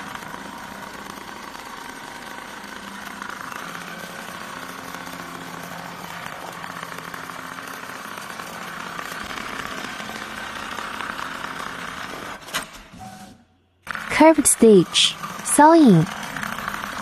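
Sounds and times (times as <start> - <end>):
sewing machine stitching rapidly: 0.0 - 12.9, 13.8 - 17.0.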